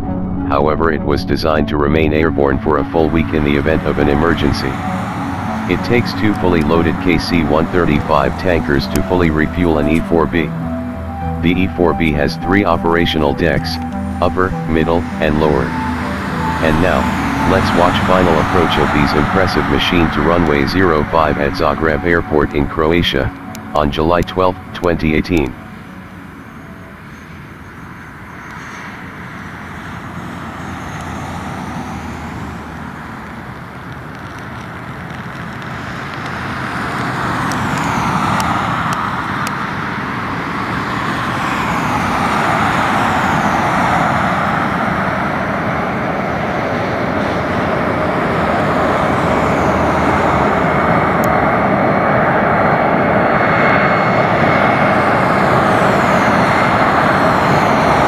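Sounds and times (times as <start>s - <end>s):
steady high whine: 0.0s - 31.0s, 38.9s - 58.0s
jet engines roaring: 0.0s - 58.0s.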